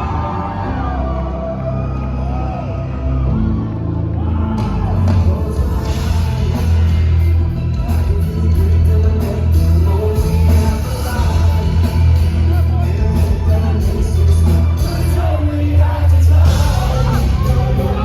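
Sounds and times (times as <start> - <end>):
live rock band playing: 0.0 - 18.0
person singing: 0.0 - 18.0.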